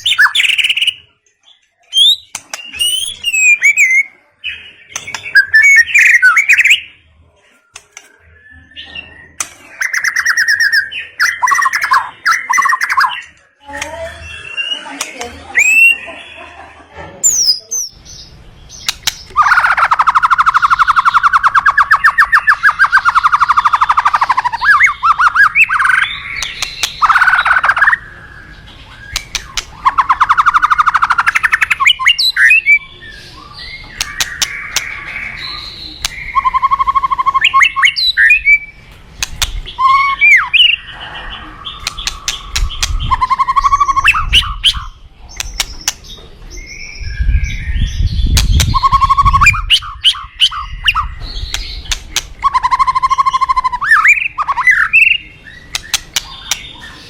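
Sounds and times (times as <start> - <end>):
songbird singing trills and whistles: 0.0 - 16.5, 17.2 - 57.0.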